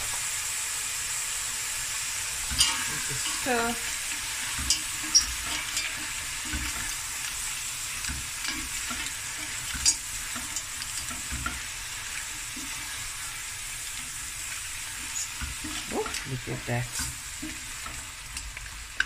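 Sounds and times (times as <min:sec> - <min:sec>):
seafood sizzling in a pot: 0:00.0 - 0:19.0
wooden spoon stirring and scraping: 0:02.4 - 0:19.0.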